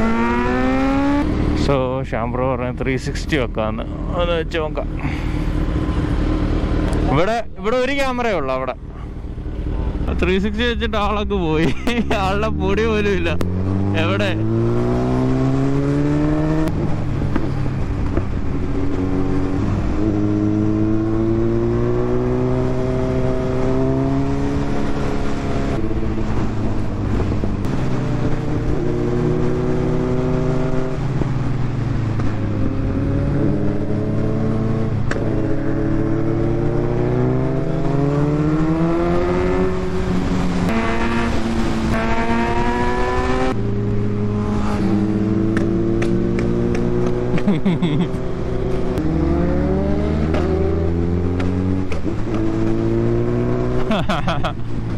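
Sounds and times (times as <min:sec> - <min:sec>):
motorcycle engine accelerating: 0:00.0 - 0:01.9, 0:03.5 - 0:54.9.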